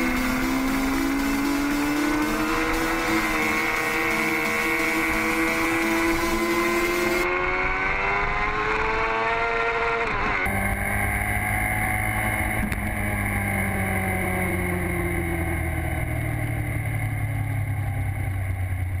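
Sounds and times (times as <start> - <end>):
motorcycle engine running: 0.0 - 8.5, 10.3 - 19.0.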